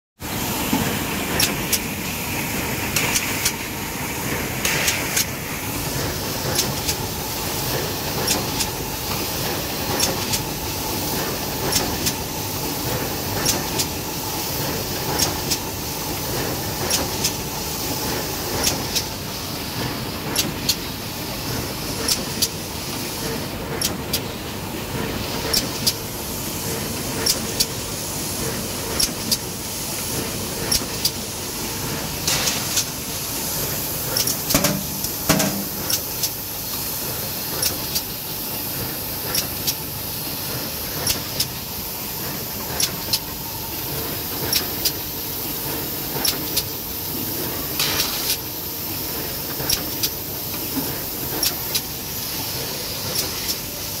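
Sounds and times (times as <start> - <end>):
machine clacks: 0.7 - 2.0, 2.6 - 48.5, 49.1 - 54.0.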